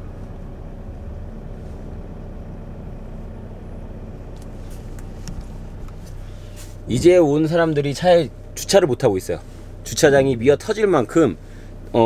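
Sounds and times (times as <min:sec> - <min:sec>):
van engine and road hum: 0:00.0 - 0:12.0.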